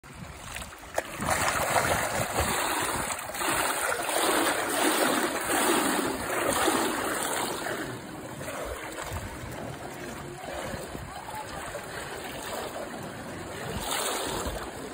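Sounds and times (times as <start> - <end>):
water splashing and churning: 0.0 - 14.9.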